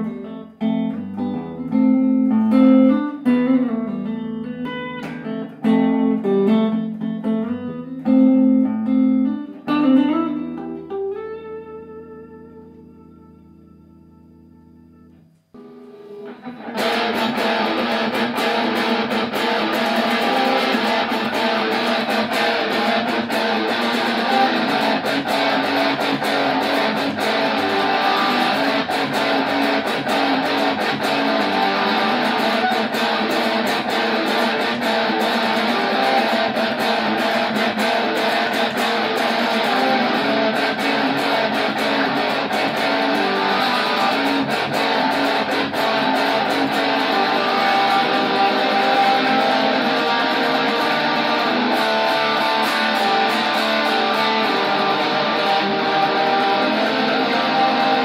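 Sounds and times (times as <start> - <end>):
electric guitar strumming chords: 0.0 - 58.0.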